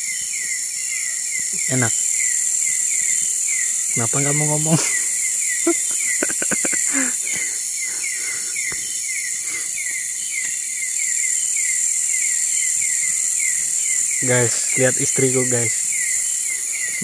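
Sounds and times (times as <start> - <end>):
insect shrill drone: 0.0 - 17.0.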